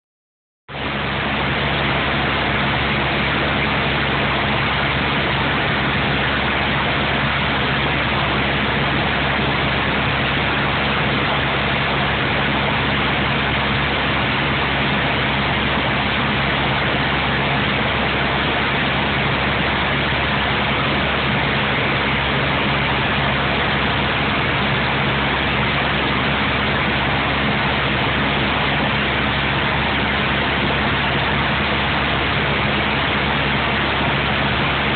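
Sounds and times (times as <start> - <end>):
light aircraft engine drone: 0.7 - 34.9.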